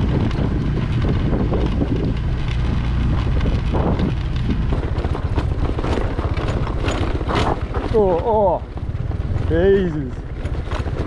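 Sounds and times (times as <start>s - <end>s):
scooter engine rumble: 0.0s - 11.0s
tyres on rough dirt track: 0.0s - 11.0s
wind buffeting microphone: 0.0s - 11.0s.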